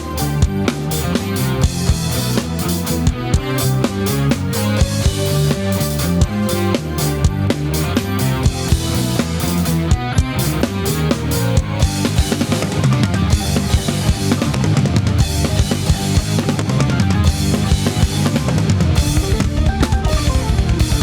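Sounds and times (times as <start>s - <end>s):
backing music track: 0.0s - 21.0s
drum kit playing: 0.0s - 21.0s.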